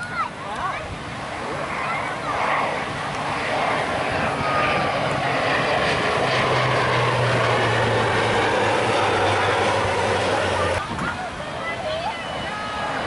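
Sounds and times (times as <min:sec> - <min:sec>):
propeller plane flying past: 0:00.0 - 0:13.0.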